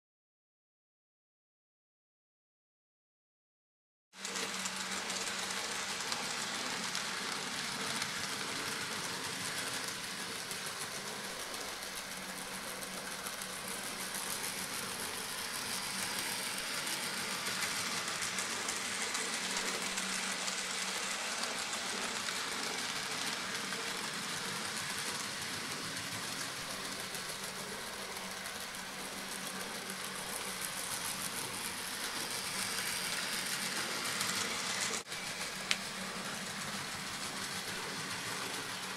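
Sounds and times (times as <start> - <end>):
small electric motor whirring: 4.2 - 38.9
wheels rattling on track: 4.2 - 38.9.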